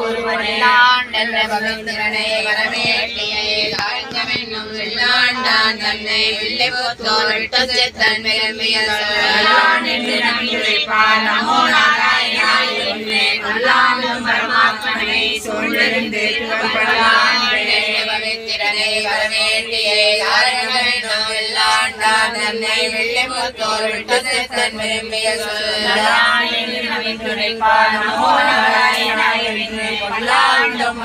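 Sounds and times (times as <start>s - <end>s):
group chanting a hymn: 0.0s - 31.0s.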